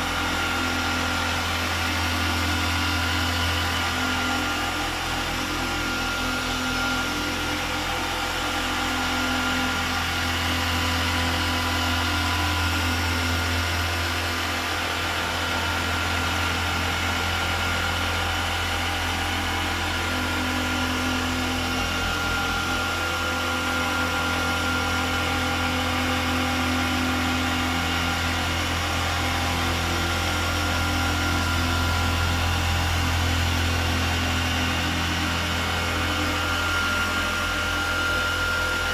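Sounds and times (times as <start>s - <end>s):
orbital polisher whirring: 0.0s - 38.9s.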